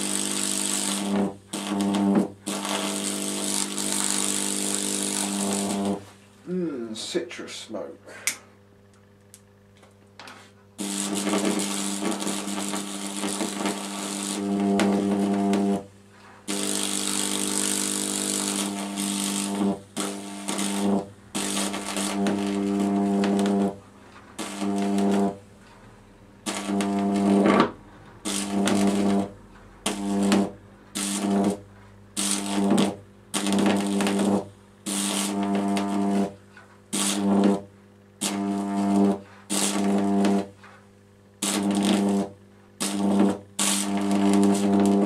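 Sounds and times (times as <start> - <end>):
electric arc harsh buzz: 0.0 - 8.4, 10.8 - 45.0.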